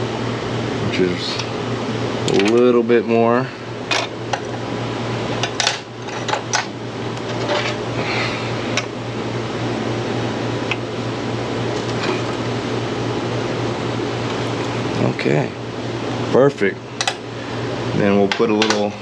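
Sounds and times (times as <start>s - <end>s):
shop fan humming: 0.0s - 19.0s.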